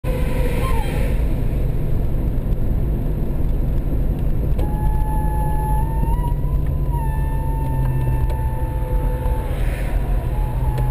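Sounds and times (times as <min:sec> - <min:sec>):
deep exhaust drone: 0:00.0 - 0:10.9.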